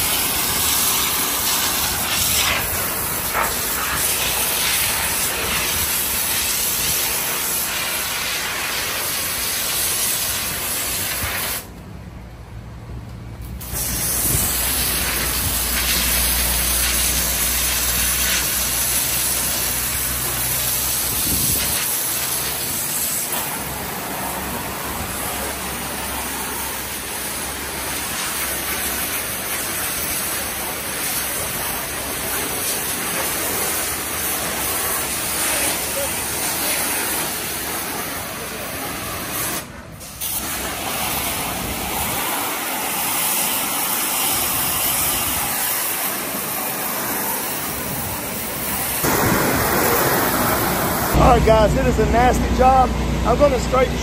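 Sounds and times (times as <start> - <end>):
pressure washer spray hiss: 0.0 - 11.7, 13.5 - 51.3.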